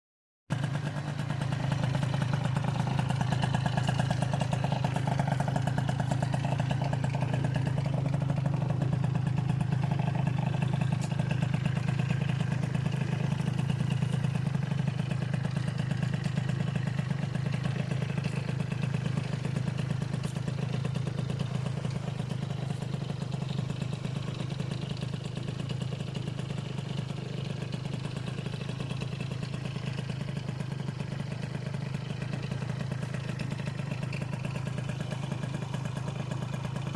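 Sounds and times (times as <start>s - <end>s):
scooter two-stroke engine running: 0.5s - 36.9s.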